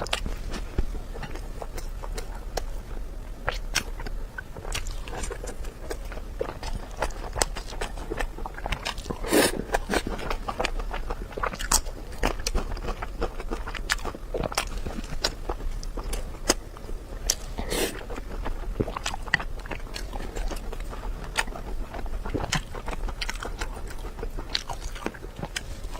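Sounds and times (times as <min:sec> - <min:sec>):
person chewing food: 0:00.0 - 0:25.9.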